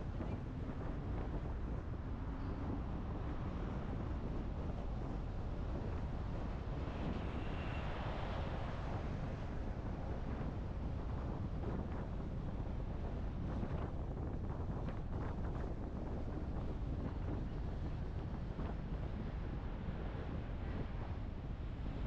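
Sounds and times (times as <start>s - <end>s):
road and tyre noise: 0.0s - 22.0s
wind buffeting microphone: 0.0s - 22.0s.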